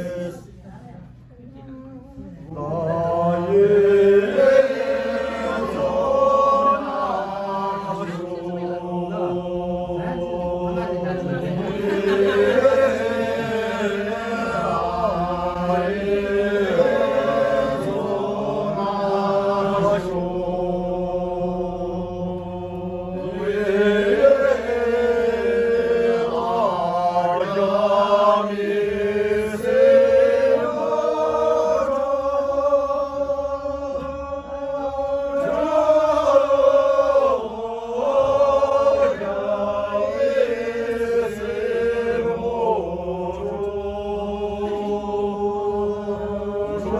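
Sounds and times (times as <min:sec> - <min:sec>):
group singing without instruments: 0:00.0 - 0:00.8, 0:02.2 - 0:46.9.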